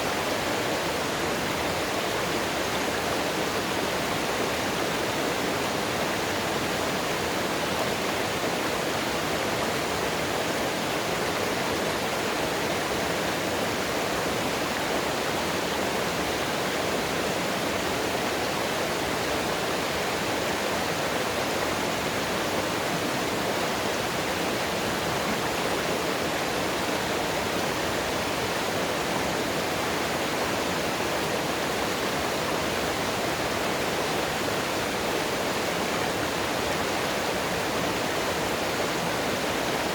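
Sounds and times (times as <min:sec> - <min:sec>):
mountain water rushing: 0:00.0 - 0:39.9.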